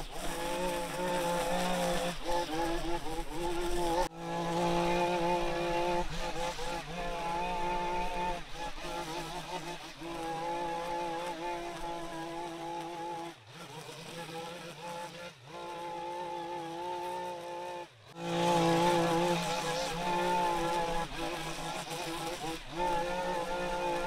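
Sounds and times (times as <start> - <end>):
small petrol engine running: 0.0 - 24.0.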